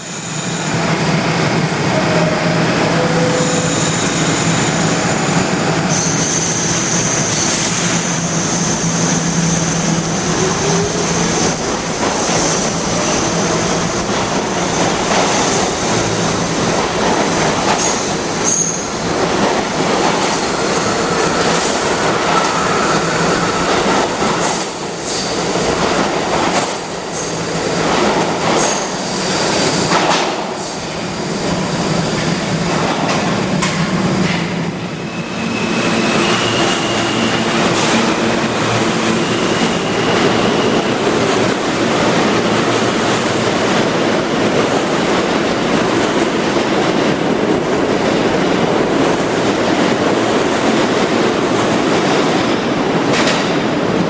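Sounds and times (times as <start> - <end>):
train wheels rattling on rails: 0.0 - 54.0.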